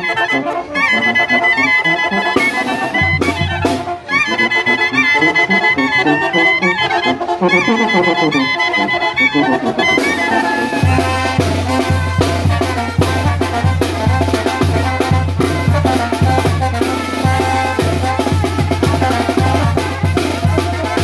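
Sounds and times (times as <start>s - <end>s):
brass band music with trumpets: 0.0s - 21.0s.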